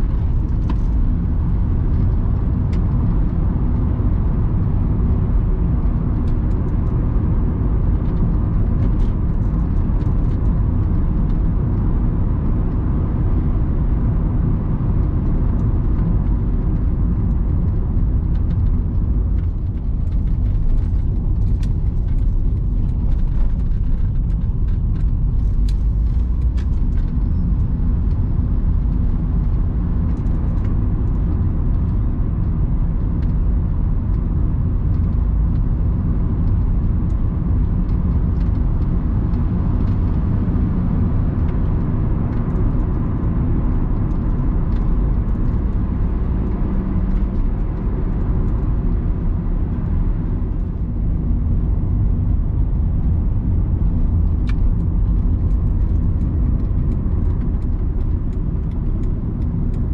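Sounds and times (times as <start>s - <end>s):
car engine hum: 0.0s - 59.9s
road and tyre rumble: 0.0s - 59.9s.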